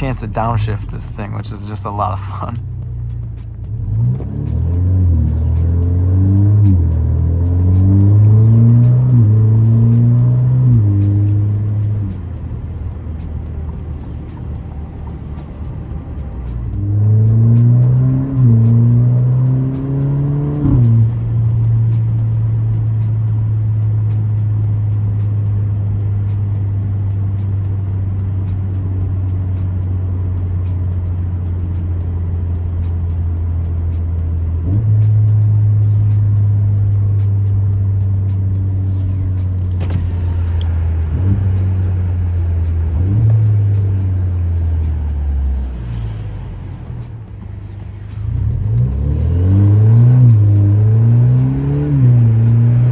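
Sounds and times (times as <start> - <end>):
car engine and exhaust drone: 0.0 - 52.9.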